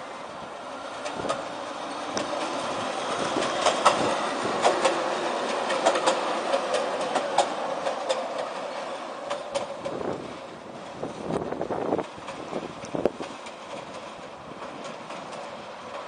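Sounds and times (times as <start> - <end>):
tram passing: 0.0 - 16.0.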